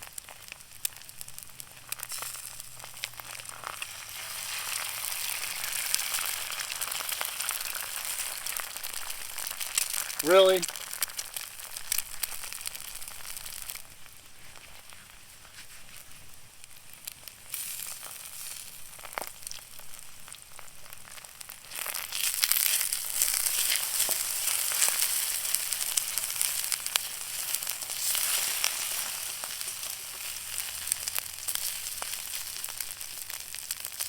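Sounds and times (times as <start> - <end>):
food sizzling in oil: 0.0 - 15.2, 15.8 - 34.0.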